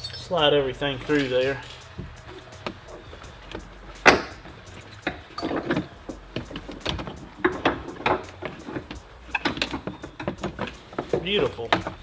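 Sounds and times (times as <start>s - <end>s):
knocks and clatters: 0.0s - 12.0s.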